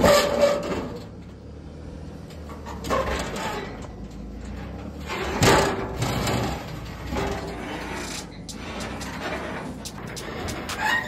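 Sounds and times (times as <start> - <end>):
trailer clunking and creaking: 0.0 - 11.0.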